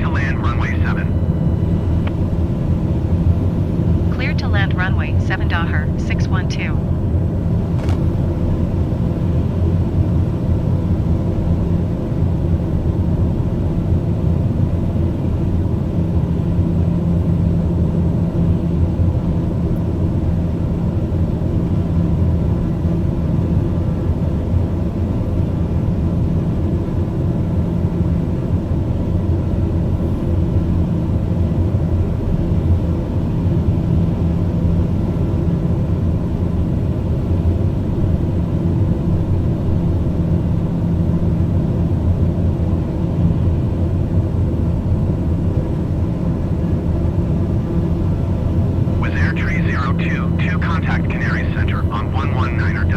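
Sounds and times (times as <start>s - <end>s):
aircraft engine drone: 0.0s - 52.9s.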